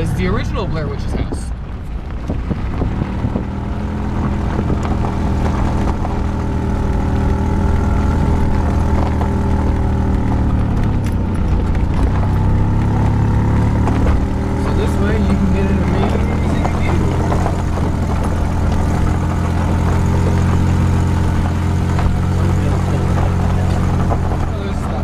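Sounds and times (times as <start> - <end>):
car engine hum: 0.0 - 25.0
road noise inside car: 0.0 - 25.0.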